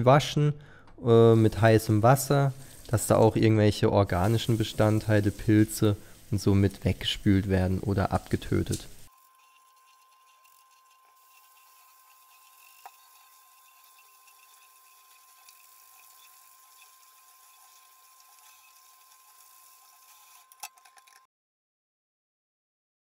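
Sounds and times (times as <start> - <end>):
tap water running: 1.2 - 21.0.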